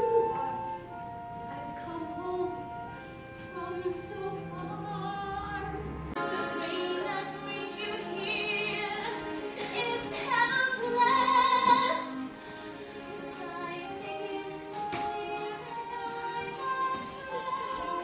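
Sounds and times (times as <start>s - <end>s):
musical accompaniment: 0.0s - 18.0s
woman singing a ballad: 1.5s - 2.8s, 3.4s - 12.3s, 13.1s - 18.0s.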